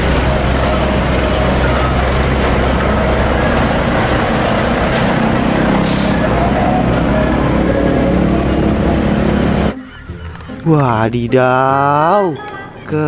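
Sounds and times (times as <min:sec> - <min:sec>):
truck engine running: 0:00.0 - 0:10.6
road noise: 0:00.0 - 0:13.0.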